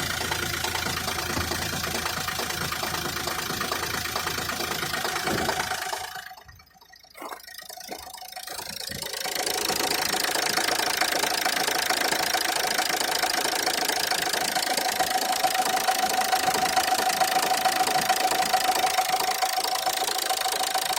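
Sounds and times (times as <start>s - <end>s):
car engine running: 0.0s - 20.9s
rapid knocking from engine: 0.0s - 20.9s.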